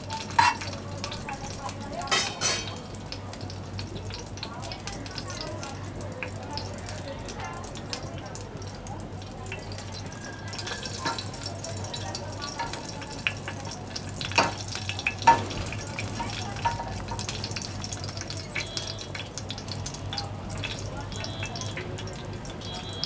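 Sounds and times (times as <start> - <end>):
seeds sizzling in hot oil: 0.0 - 23.0.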